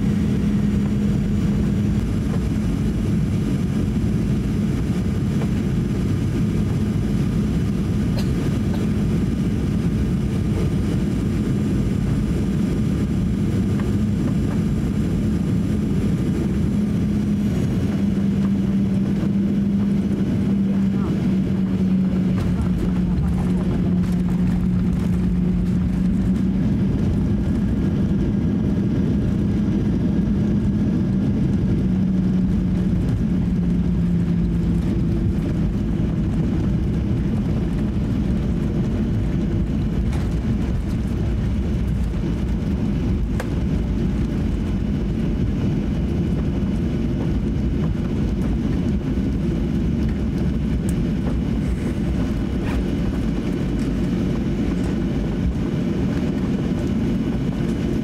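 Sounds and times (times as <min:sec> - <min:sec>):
engine and air rumble: 0:00.0 - 0:58.0
low hum: 0:00.0 - 0:58.0.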